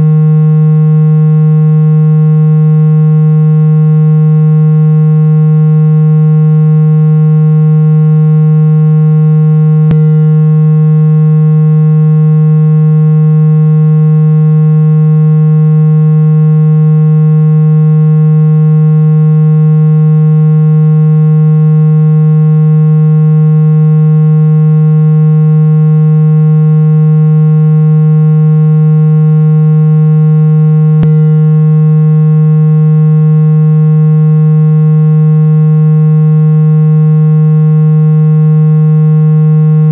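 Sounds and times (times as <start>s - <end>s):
low buzzy electronic tone: 0.0s - 39.9s.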